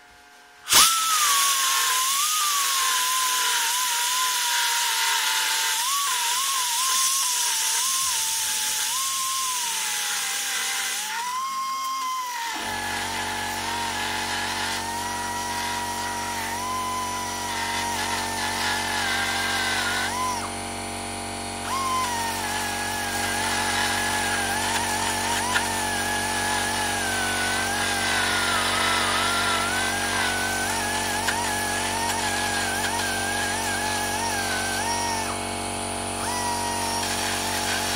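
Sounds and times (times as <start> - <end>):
rotary tool grinding: 0.7 - 20.6, 21.6 - 37.9.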